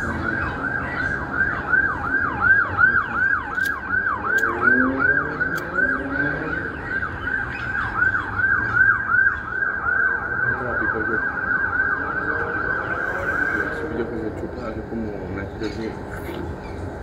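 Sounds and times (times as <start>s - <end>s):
emergency siren fast yelp: 0.0s - 14.2s.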